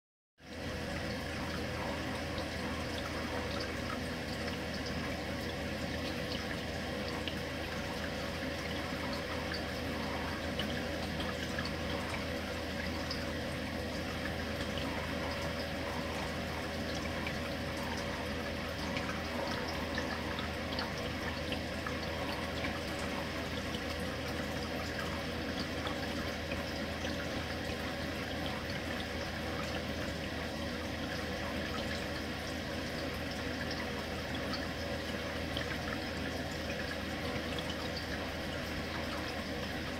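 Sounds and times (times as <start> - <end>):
aquarium water trickling: 0.4 - 39.9
low steady hum: 0.4 - 39.9.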